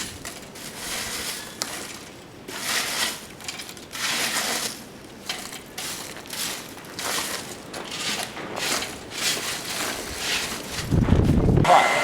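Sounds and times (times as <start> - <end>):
coke crunching and scraping: 0.0 - 11.0.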